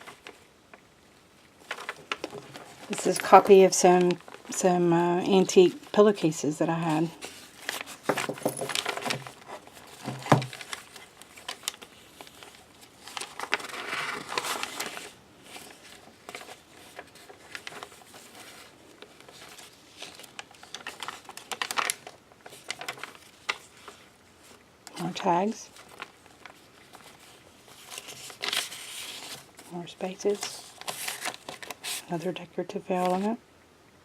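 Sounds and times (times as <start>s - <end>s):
paper rustling: 0.0s - 0.5s, 1.4s - 32.2s, 32.9s - 33.4s.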